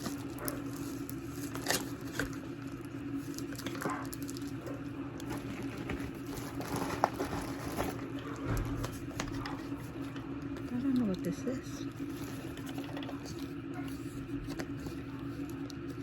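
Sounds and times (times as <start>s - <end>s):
plastic packaging crinkling: 0.0s - 16.0s
steady low hum: 0.0s - 16.0s.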